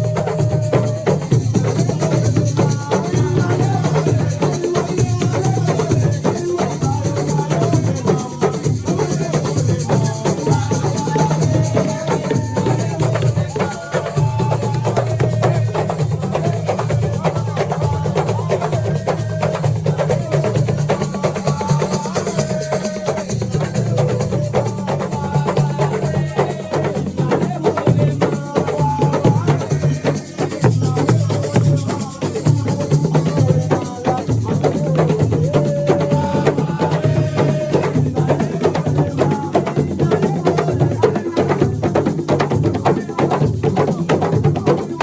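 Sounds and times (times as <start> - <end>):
hand drums: 0.0 - 45.0
rattling shakers: 0.0 - 45.0.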